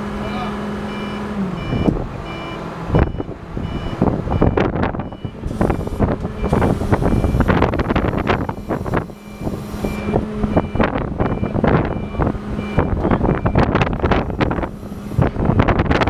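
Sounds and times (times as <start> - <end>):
engine hum: 0.0 - 16.0
reversing alarm beeps: 0.3 - 7.6, 8.4 - 14.4
wind buffeting microphone: 1.6 - 16.0.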